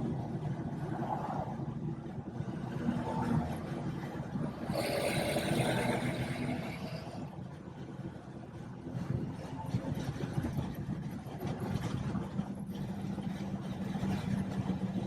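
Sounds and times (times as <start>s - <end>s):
car engine at highway speed: 0.0s - 15.0s
road and tyre noise: 0.0s - 15.0s.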